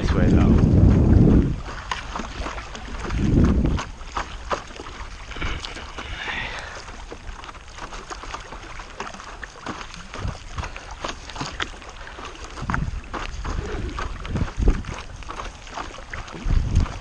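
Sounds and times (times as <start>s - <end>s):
wind buffeting microphone: 0.0s - 7.4s, 9.7s - 17.0s
paddle dipping in water: 0.0s - 17.0s
water splashing and dripping: 0.0s - 17.0s.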